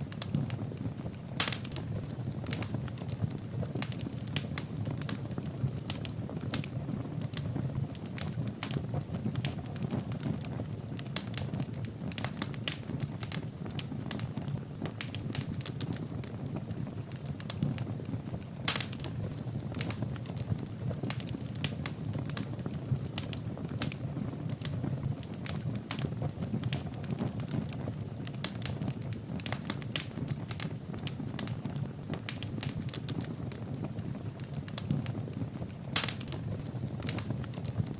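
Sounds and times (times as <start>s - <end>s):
low rumble of fire: 0.0s - 37.9s
wood fire crackling and popping: 0.0s - 37.9s.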